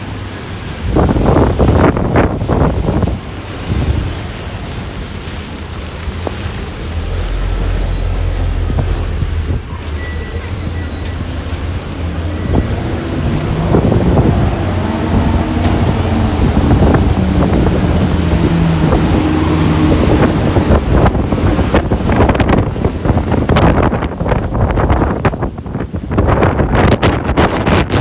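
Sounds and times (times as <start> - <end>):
wind buffeting microphone: 0.0 - 9.6, 10.4 - 28.0
wind-driven rain hiss: 0.0 - 9.6, 10.6 - 28.0
street noise: 0.0 - 28.0.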